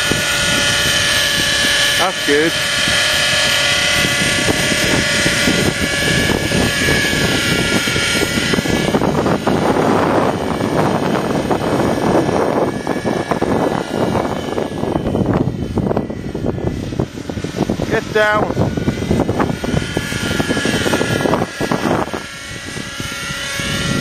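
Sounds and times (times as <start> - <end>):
model helicopter engine whine: 0.0 - 24.0
wind buffeting microphone: 0.0 - 24.0.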